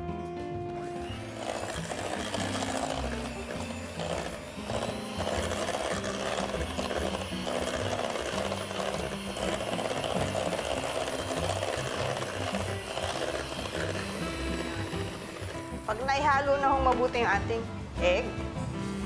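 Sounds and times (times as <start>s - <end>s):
electric hand mixer running: 0.8s - 16.6s.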